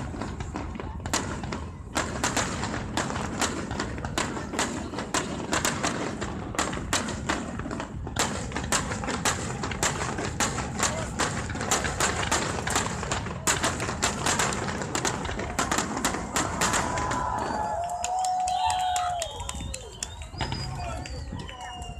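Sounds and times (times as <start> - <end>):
noisy rumble: 0.0 - 17.8
fireworks bangs and cracks: 0.0 - 21.9.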